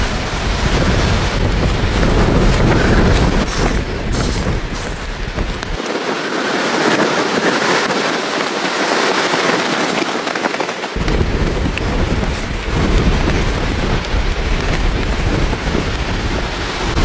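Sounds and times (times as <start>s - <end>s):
storm wind crackling rush: 0.0s - 17.0s.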